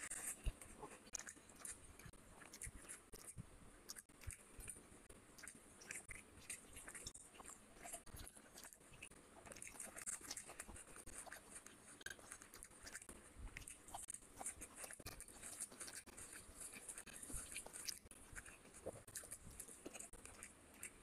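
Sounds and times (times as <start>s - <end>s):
close-up chewing with wet mouth clicks: 0.0s - 21.0s.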